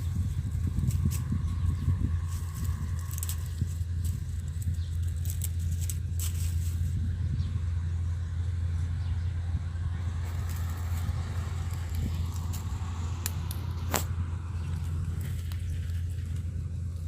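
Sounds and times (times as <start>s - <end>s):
combine harvester engine drone: 0.0s - 17.0s.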